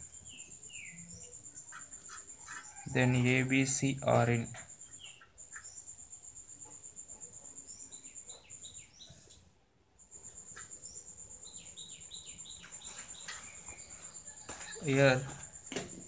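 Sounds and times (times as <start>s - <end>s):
high insect trill: 0.0s - 9.4s, 10.0s - 16.0s
falling bird chirps: 0.0s - 16.0s.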